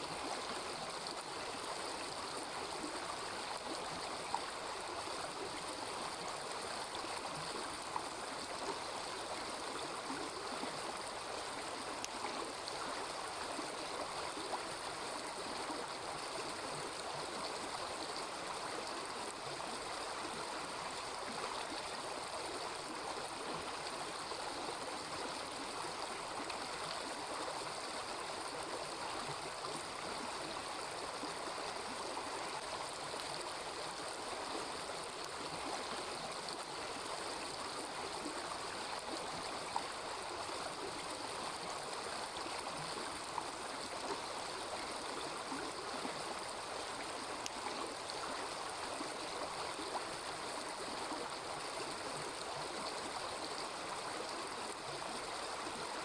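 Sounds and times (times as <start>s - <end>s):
small river babbling: 0.0s - 56.0s.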